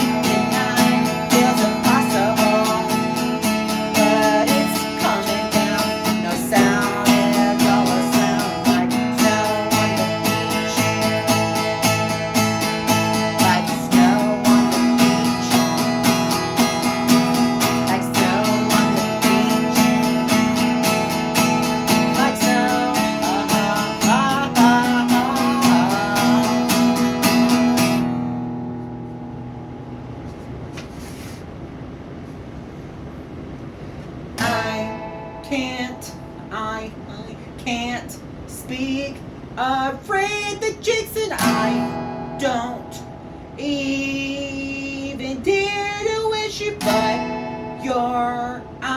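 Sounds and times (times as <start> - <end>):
acoustic guitar strumming: 0.0 - 31.2, 34.4 - 48.9.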